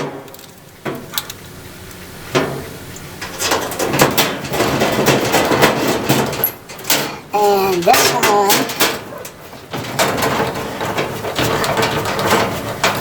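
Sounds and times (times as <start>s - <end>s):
metal rattling and scraping: 2.3s - 13.0s.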